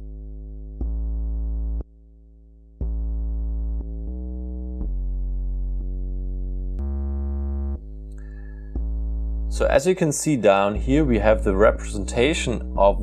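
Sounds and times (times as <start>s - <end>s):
synth bass held notes: 0.0s - 1.9s, 2.6s - 13.0s.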